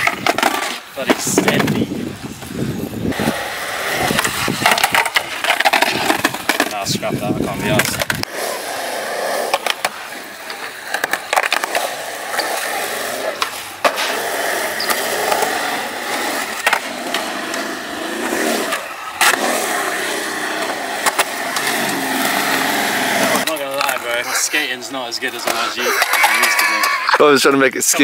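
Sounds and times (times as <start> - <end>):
skateboard clacks: 0.0 - 2.5, 3.2 - 8.6, 9.4 - 24.6, 25.2 - 26.8
skateboard wheels rolling on concrete: 0.0 - 28.0.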